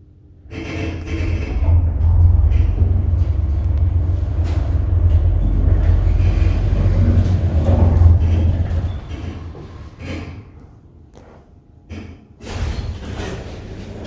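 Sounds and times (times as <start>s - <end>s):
elevator rumble and hum: 0.1s - 14.0s.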